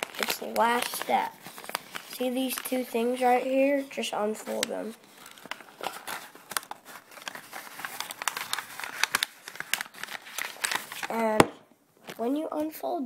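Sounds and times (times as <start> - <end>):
paper crinkling and rustling: 0.0 - 12.8.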